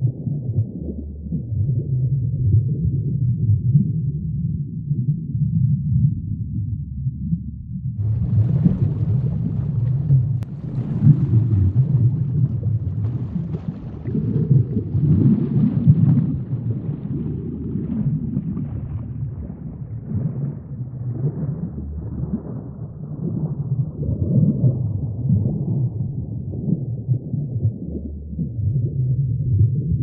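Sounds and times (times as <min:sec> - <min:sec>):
muffled underwater water rumble: 0:00.0 - 0:30.0.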